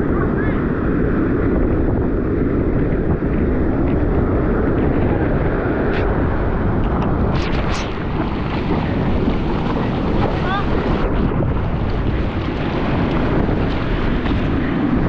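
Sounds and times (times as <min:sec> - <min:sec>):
surf washing up beach: 0:00.0 - 0:15.0
wind rumbling on microphone: 0:00.0 - 0:15.0.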